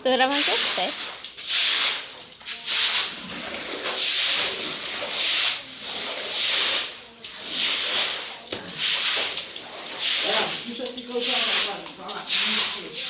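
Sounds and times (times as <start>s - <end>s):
water swept across wet floor: 0.0s - 13.0s.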